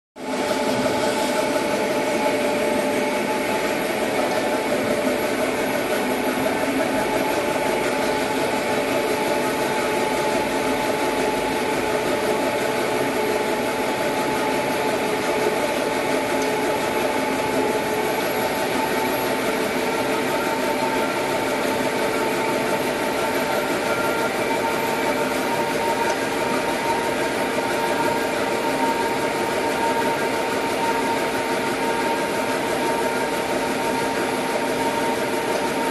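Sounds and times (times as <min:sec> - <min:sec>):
printing machine humming: 0:00.2 - 0:35.9.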